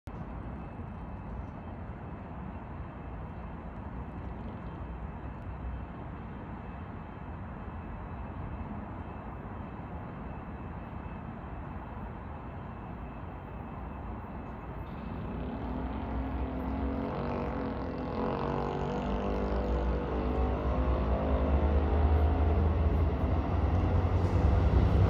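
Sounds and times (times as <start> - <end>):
distant city traffic rumble: 0.1 - 25.0.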